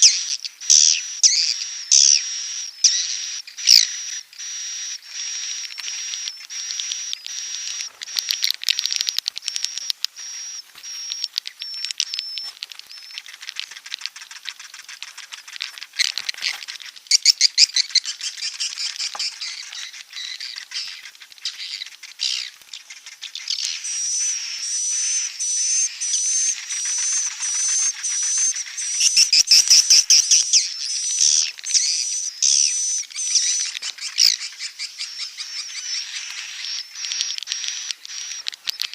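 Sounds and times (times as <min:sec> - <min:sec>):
swiftlets chirping and twittering: 0:00.0 - 0:38.9.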